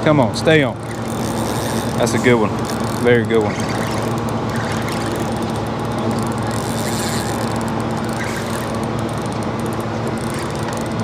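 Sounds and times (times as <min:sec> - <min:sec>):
low mechanical drone: 0:00.0 - 0:11.0
wind: 0:00.0 - 0:11.0
water noise: 0:00.8 - 0:11.0.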